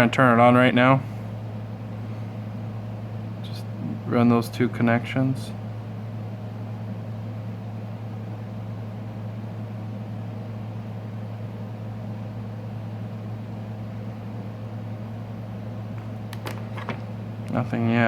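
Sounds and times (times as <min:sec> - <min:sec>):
low background hum with hiss: 0:00.0 - 0:18.0.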